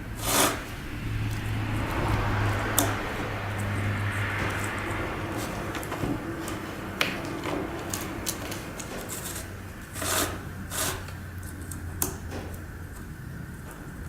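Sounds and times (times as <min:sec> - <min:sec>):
scraping rustles: 0:00.0 - 0:11.8
low steady hum: 0:00.0 - 0:14.0.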